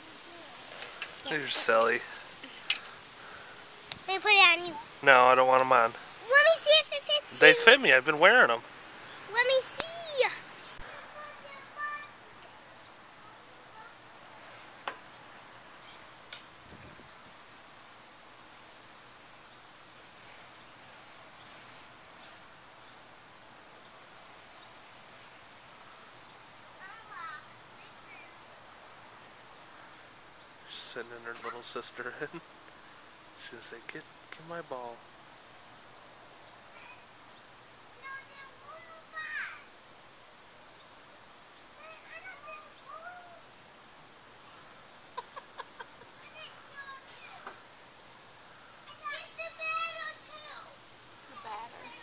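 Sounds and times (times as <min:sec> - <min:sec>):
even outdoor hiss: 0:00.0 - 0:52.0.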